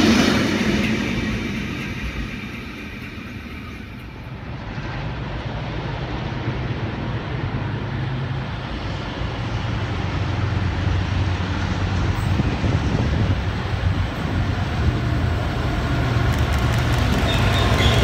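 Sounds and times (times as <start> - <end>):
diesel locomotive engine droning: 0.0 - 18.0.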